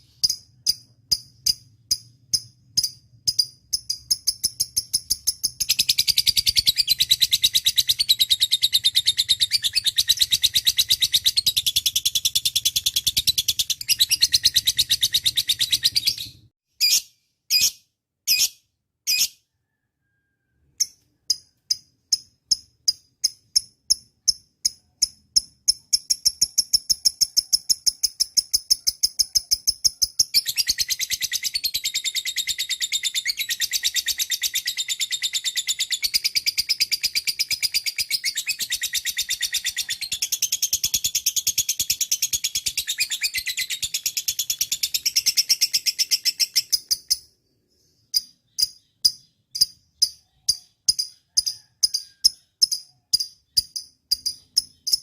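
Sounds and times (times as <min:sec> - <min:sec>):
lovebird chattering and chirping: 0:00.1 - 0:19.4, 0:20.8 - 0:55.0.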